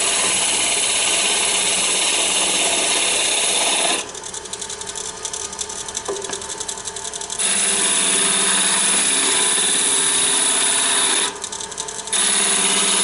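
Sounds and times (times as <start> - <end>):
lathe tool cutting wood: 0.0 - 4.2, 6.1 - 13.0
lathe hum: 0.0 - 13.0.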